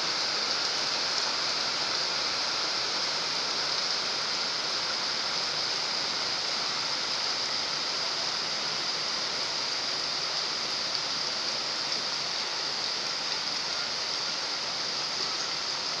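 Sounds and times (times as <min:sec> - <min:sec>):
rain pattering on a pond: 0:00.0 - 0:16.0.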